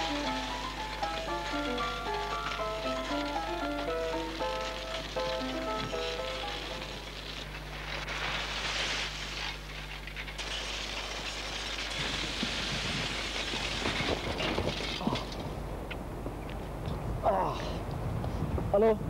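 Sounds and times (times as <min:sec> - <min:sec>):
small knocks and rattles: 0:00.0 - 0:17.0
bicycle tyres on gravel: 0:00.0 - 0:17.2.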